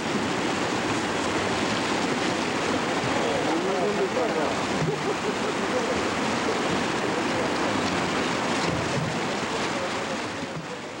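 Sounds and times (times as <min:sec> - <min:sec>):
river torrent rushing: 0:00.0 - 0:11.0.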